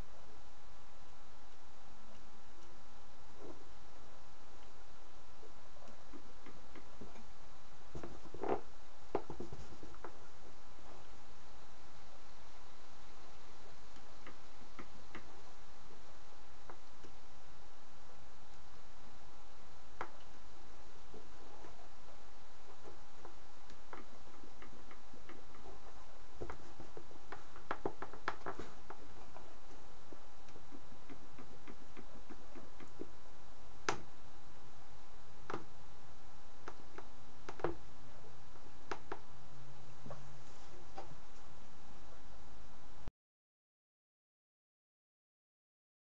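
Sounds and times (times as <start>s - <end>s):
steady hiss: 0.0s - 43.1s.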